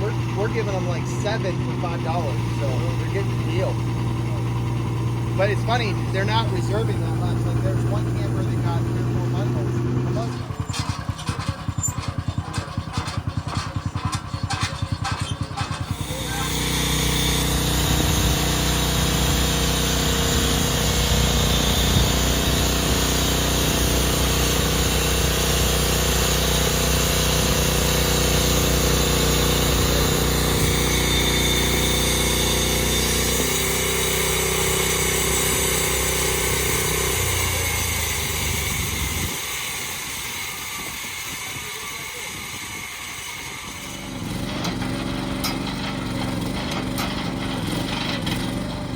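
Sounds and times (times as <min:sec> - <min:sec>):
engine idling and revving: 0:00.0 - 0:41.8, 0:43.7 - 0:48.9.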